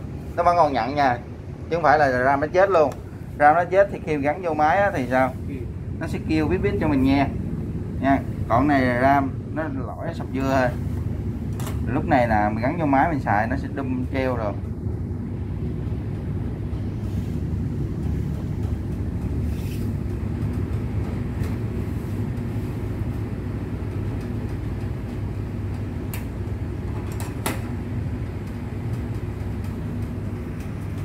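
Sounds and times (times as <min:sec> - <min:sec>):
low machinery hum: 0:00.0 - 0:31.0.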